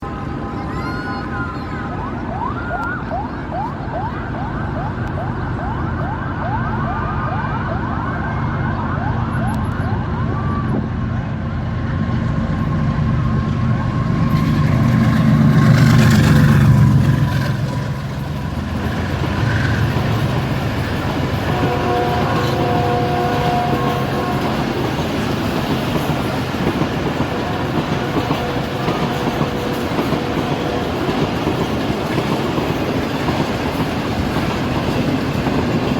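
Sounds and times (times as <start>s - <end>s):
diesel locomotive engine chugging: 0.0s - 35.9s
train running: 0.0s - 35.9s.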